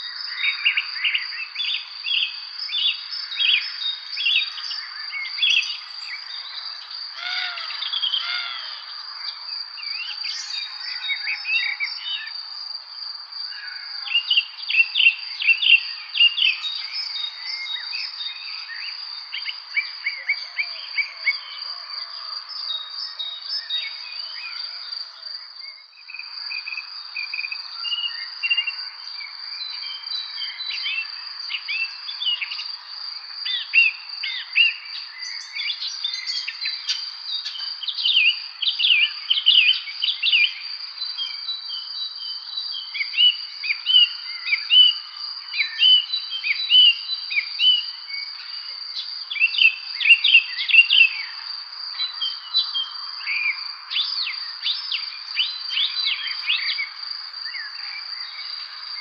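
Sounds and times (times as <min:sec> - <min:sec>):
insects trilling: 0:00.0 - 0:59.0
songbirds chirping and singing: 0:00.0 - 0:59.0.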